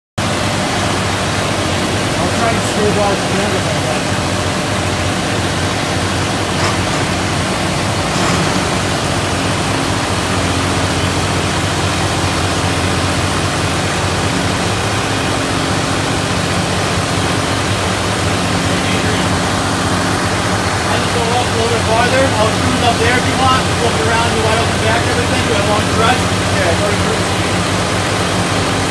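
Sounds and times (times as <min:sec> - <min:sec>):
diesel engines running: 0:00.2 - 0:28.9.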